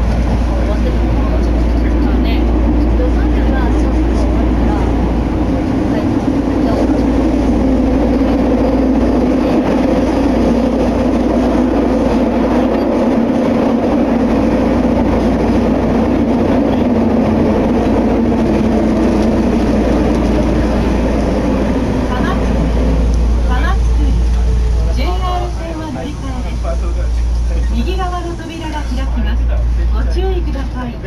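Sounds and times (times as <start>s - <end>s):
subway train running in tunnel: 0.0s - 31.0s.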